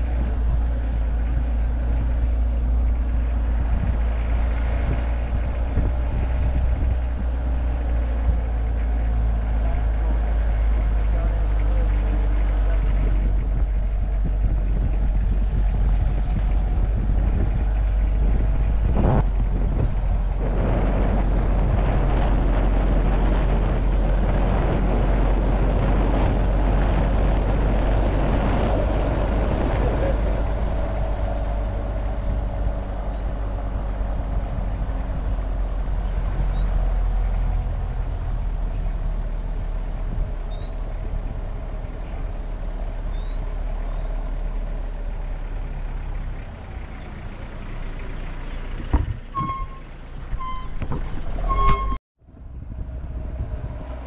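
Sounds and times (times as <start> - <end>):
vehicle engine and road noise: 0.0 - 54.0
wind rumble on microphone: 0.0 - 54.0.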